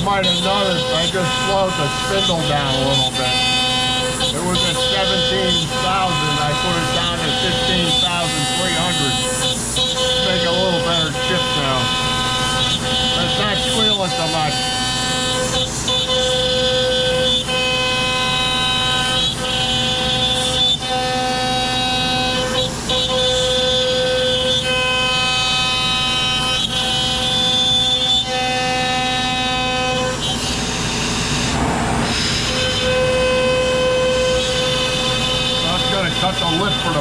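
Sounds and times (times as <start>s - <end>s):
router spindle cutting wood: 0.0s - 37.0s.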